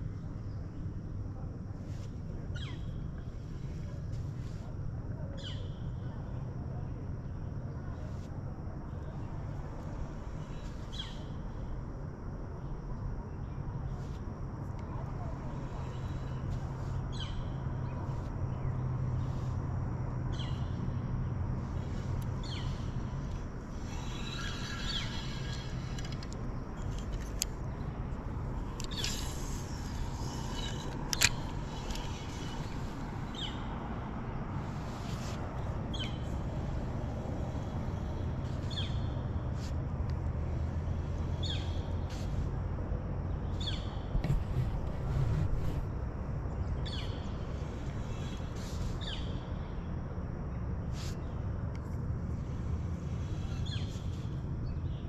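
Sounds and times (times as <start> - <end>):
steady low hum: 0.0 - 55.0
steady low rumble: 0.0 - 55.0.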